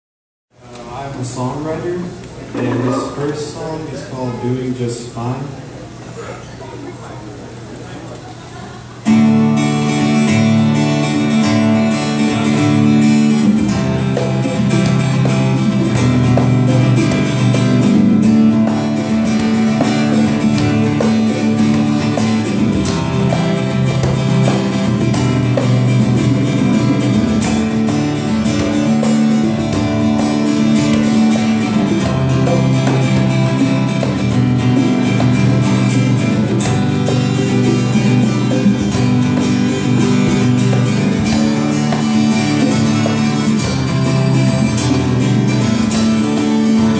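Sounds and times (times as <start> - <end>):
acoustic guitar strumming chords: 2.5 - 4.4, 9.0 - 46.9.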